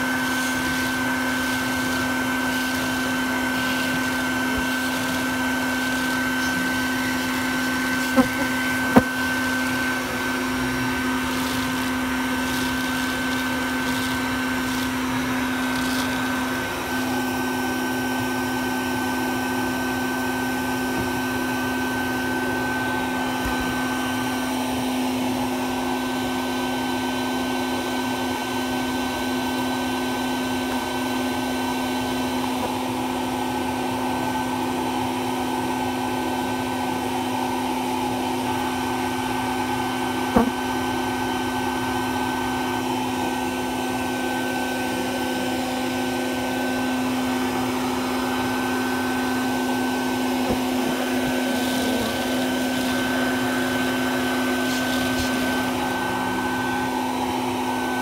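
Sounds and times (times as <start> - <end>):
vacuum motor humming: 0.0 - 58.0.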